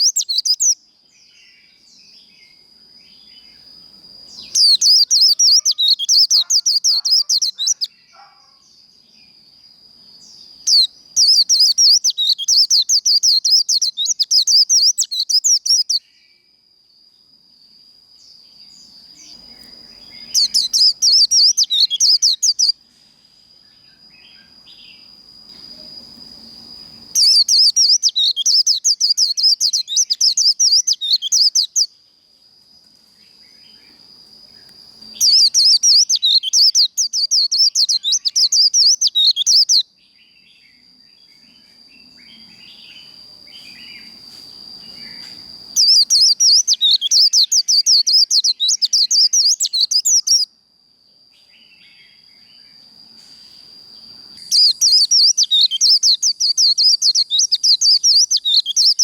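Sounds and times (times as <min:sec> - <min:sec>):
bird twittering song: 0:00.0 - 0:16.5, 0:18.2 - 0:22.8, 0:26.8 - 0:32.0, 0:33.2 - 0:50.5, 0:54.0 - 0:59.0
faint steady high tone: 0:00.0 - 0:59.0.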